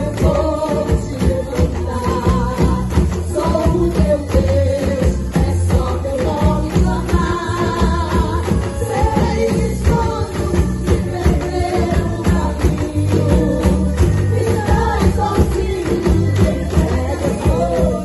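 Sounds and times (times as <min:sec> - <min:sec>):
percussion band drumming: 0:00.0 - 0:18.0
person singing worship song: 0:00.0 - 0:18.0.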